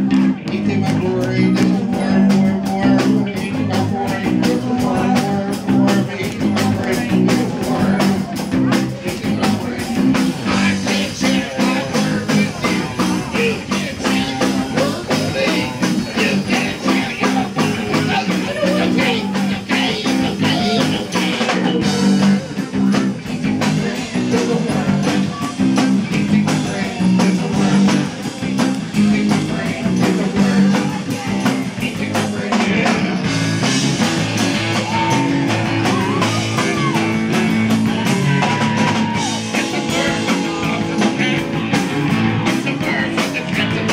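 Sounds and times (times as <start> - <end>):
drum kit beat: 0.0 - 43.9
electric guitars: 0.0 - 43.9.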